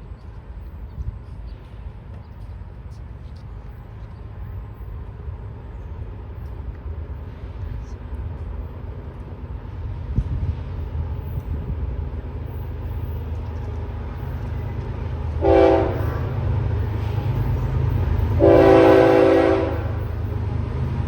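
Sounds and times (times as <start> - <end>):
freight train rumble: 0.0 - 21.0.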